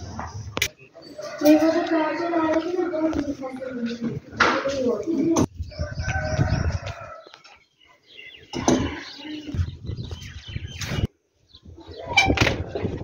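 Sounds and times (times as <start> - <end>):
small birds chirping: 0.6 - 13.0.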